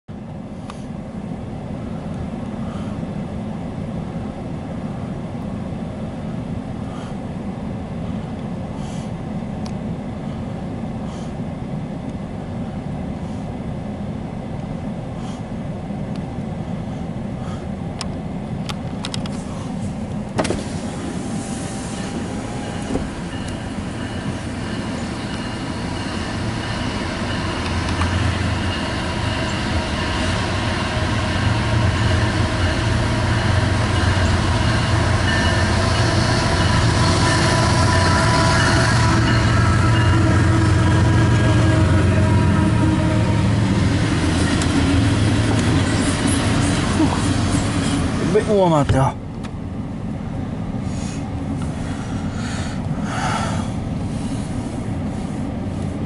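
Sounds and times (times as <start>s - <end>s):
diesel freight train rumbling: 0.1s - 56.0s
train hum with faint whine: 0.1s - 56.0s.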